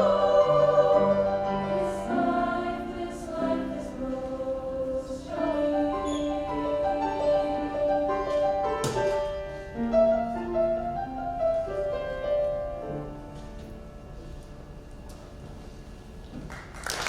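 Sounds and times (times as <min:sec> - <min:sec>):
choir singing with piano: 0:00.0 - 0:13.9.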